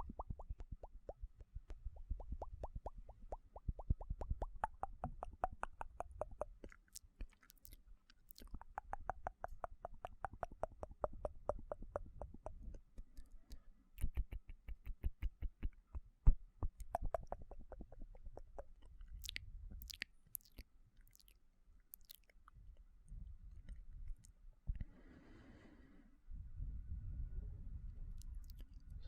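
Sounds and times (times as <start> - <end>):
wet tongue and lip clicking: 0.0 - 22.6, 23.5 - 24.8, 28.2 - 29.0.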